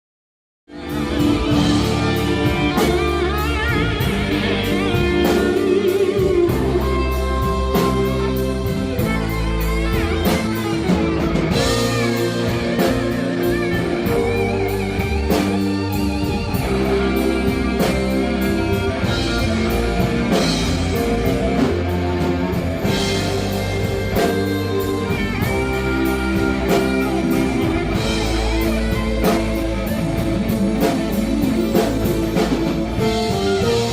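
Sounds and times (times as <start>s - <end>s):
rock music: 0.7s - 33.9s.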